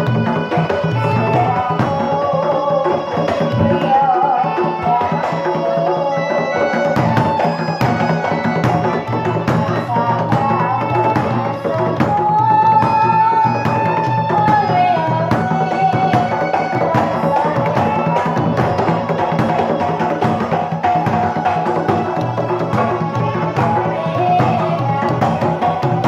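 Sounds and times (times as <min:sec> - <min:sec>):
hand drums: 0:00.0 - 0:26.0.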